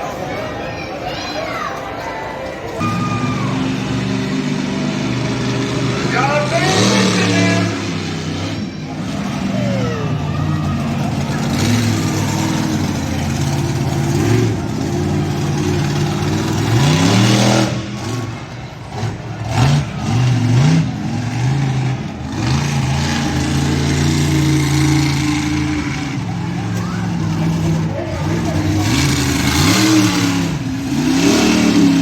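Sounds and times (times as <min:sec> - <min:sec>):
truck engine revving: 0:02.7 - 0:32.0.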